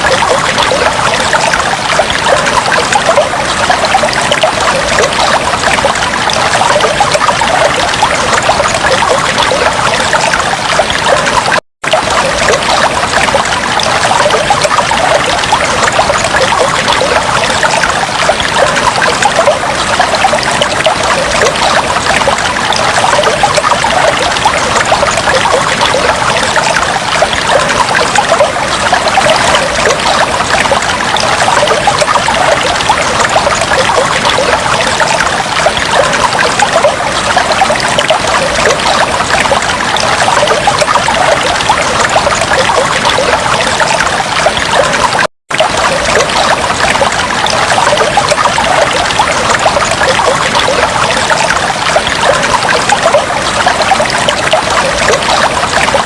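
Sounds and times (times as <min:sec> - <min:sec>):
fish tank water bubbling: 0:00.0 - 0:56.0.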